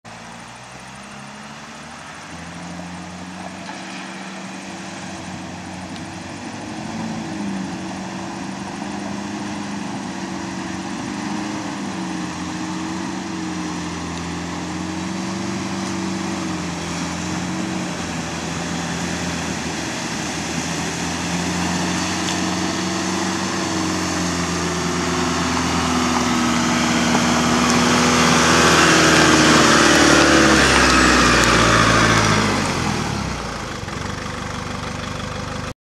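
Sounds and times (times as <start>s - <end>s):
engine running at low revs: 0.0s - 35.7s
water rushing: 0.1s - 35.6s.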